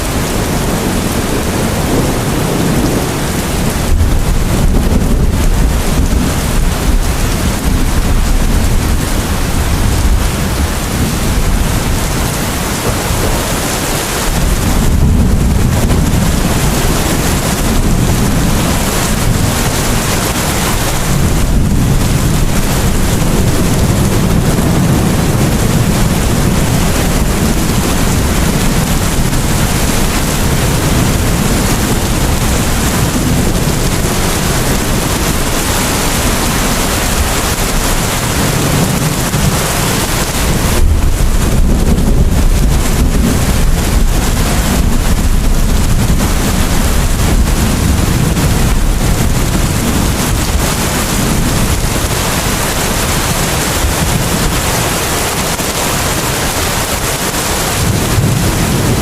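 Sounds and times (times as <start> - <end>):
deep rumble: 0.0 - 59.0
heavy rain: 0.0 - 59.0.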